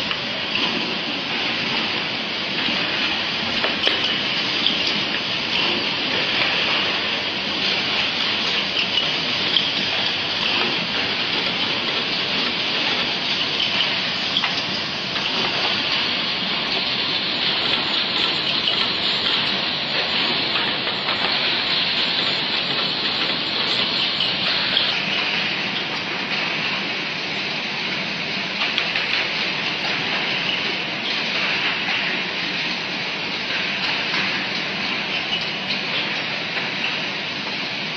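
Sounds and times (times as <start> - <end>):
factory machines hissing: 0.0 - 37.9.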